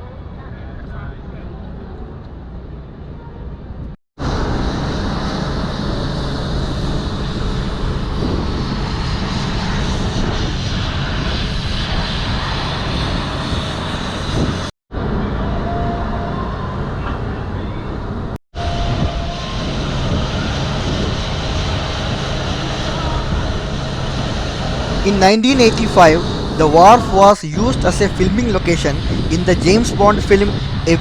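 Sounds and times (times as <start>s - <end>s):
outdoor rushing noise: 1.3s - 31.0s.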